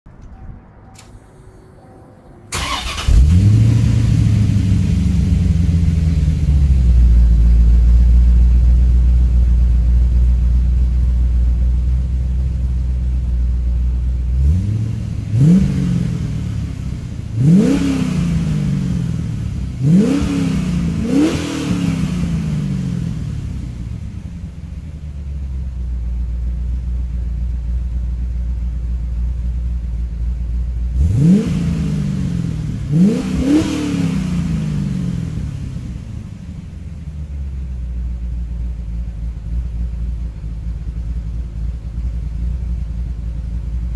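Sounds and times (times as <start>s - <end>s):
car engine starting and idling: 0.1s - 43.9s
engine throttle blips: 0.1s - 43.9s.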